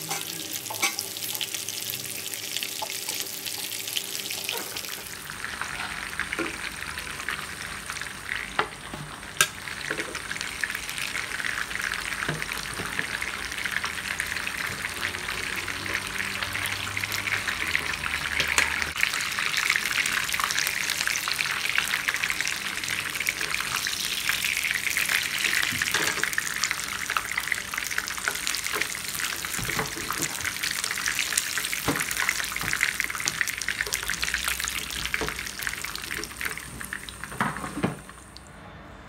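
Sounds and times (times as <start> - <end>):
chicken sizzling in hot oil: 0.0 - 38.2.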